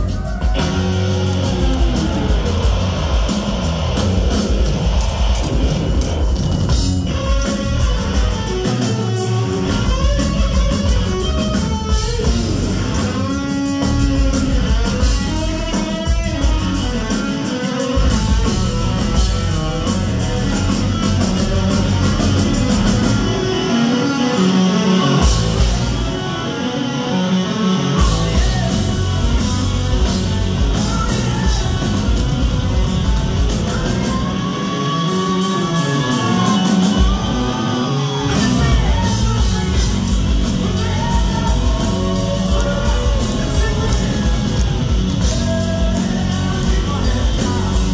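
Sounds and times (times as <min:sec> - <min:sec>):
electric guitar: 0:00.0 - 0:47.9
rock band playing live: 0:00.0 - 0:47.9.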